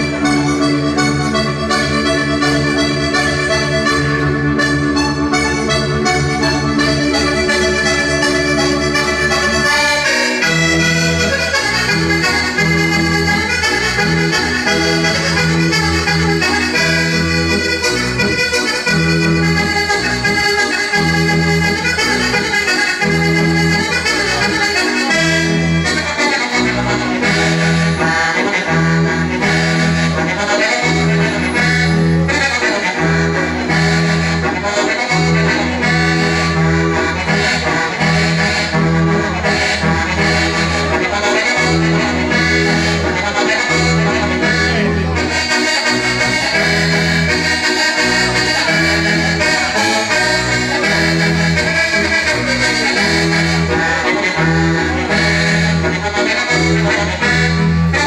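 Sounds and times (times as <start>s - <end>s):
button accordion dance tune: 0.0s - 58.0s.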